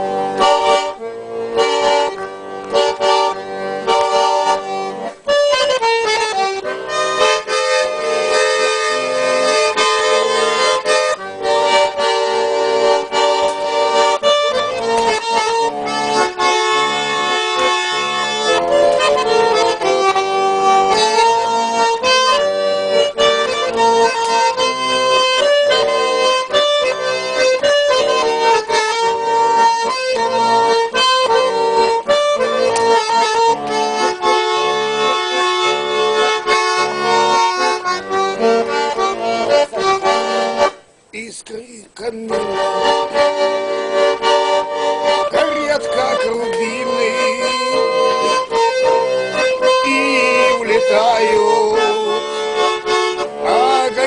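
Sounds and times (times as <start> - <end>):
accordion playing: 0.0 - 54.0.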